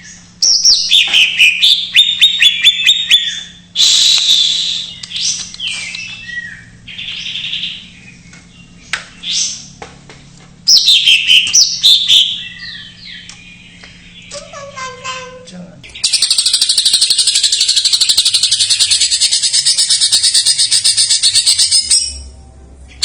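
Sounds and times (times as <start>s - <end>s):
bird singing trills and whistles: 0.0s - 9.8s, 10.7s - 14.8s, 15.9s - 22.3s.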